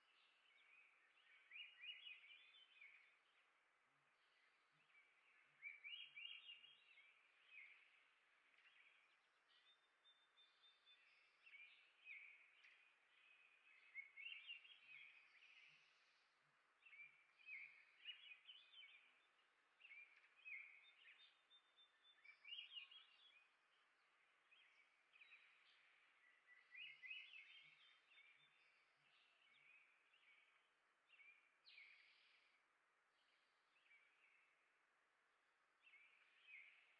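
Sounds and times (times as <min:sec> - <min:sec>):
low steady hiss: 0:00.0 - 0:36.9
small songbirds chirping: 0:00.0 - 0:36.9.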